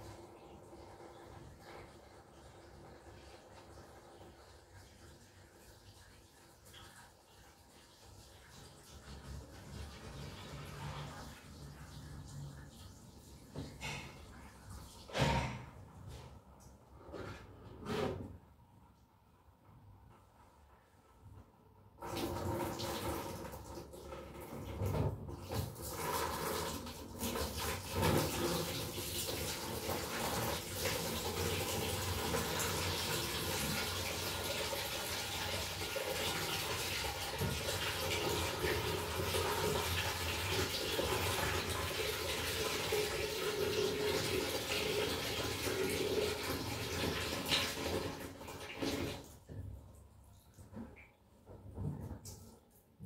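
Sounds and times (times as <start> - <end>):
water rushing through pipes: 0.0 - 15.5, 22.0 - 51.1.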